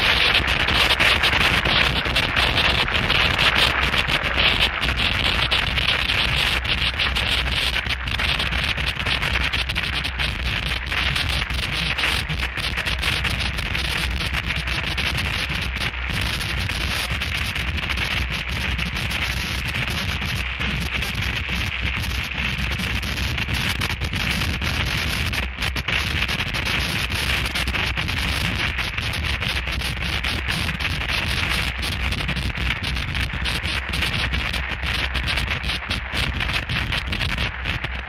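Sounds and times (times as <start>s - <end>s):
harsh distorted noise music: 0.0s - 38.0s.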